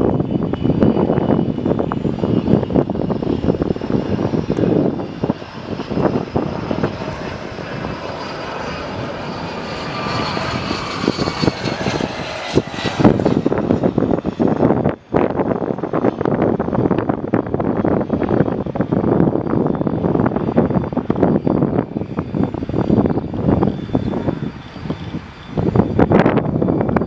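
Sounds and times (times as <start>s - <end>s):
jet engines roaring with high whine: 0.0s - 27.0s
wind gusts on microphone: 0.0s - 27.0s.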